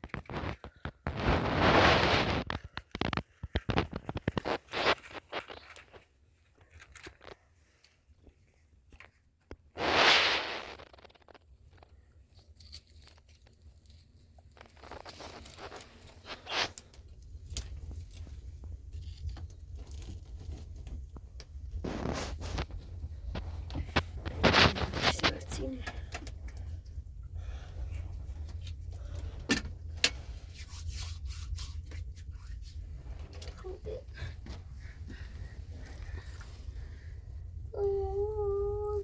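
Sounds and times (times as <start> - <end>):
crunching and scraping handling noises: 0.0 - 37.2.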